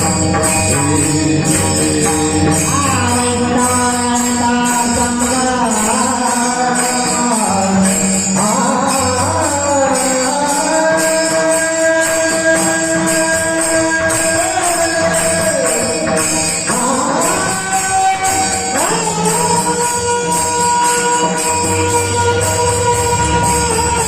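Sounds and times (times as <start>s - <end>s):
man singing devotional song: 0.0s - 24.0s
small metal hand cymbals: 0.0s - 24.0s.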